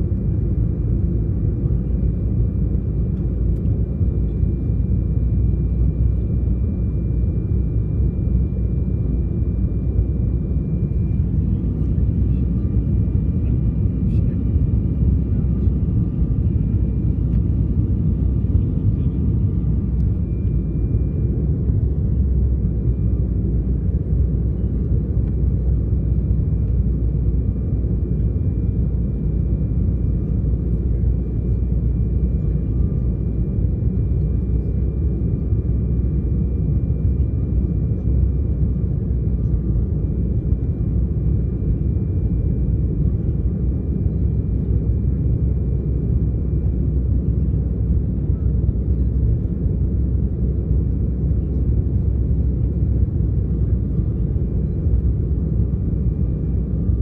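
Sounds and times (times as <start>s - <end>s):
airliner engines and airflow rumble: 0.0s - 57.0s.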